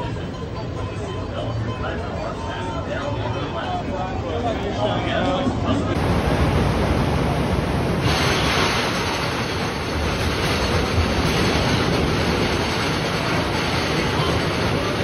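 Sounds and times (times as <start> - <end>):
roller coaster wheels on track: 0.0 - 15.0.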